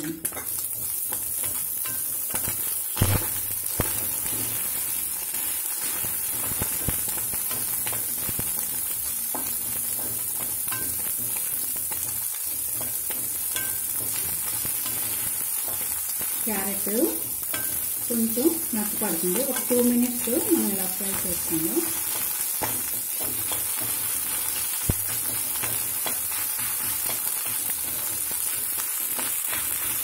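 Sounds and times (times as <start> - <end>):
spatula scraping and tapping pan: 0.0 - 3.1, 3.7 - 18.1, 18.8 - 30.0
vegetables sizzling in oil: 0.0 - 30.0.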